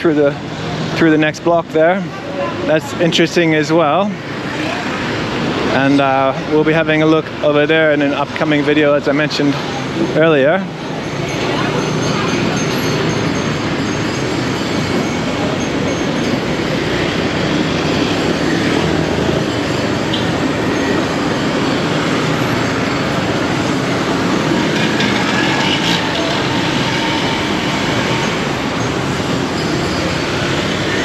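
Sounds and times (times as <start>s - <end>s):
busy city street traffic: 0.0s - 31.0s.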